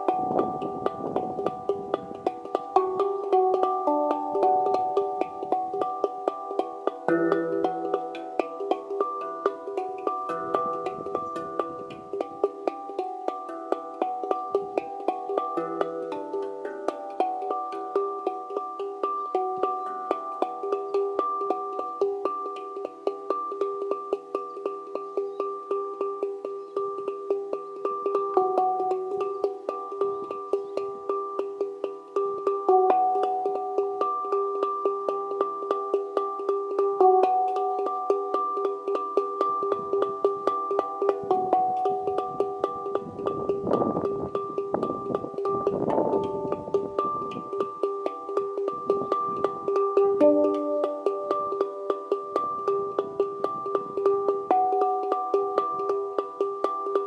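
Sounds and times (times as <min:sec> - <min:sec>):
handpan played with fingertips: 0:00.0 - 0:57.0.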